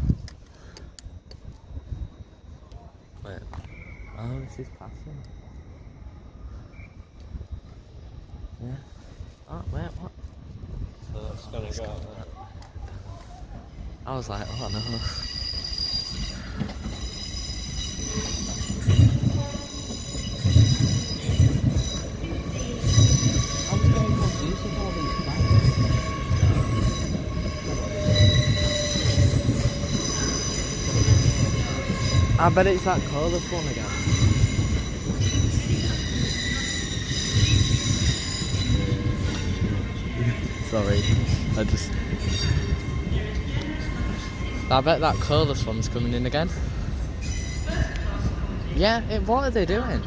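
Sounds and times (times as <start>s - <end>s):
low locomotive rumble: 0.0s - 50.0s
train wheels squealing: 0.0s - 50.0s.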